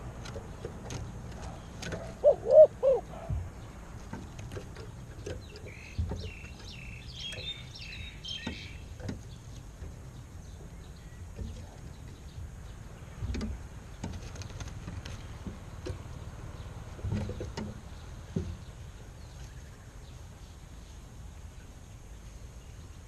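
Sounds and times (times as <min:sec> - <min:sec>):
low outdoor rumble: 0:00.0 - 0:23.0
small bird chirping: 0:00.4 - 0:23.0.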